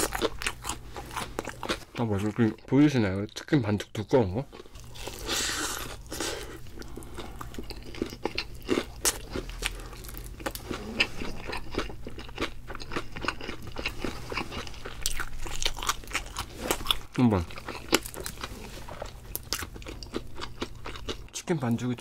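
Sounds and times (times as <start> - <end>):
fried chicken crunching: 0.0 - 2.5, 4.5 - 21.3.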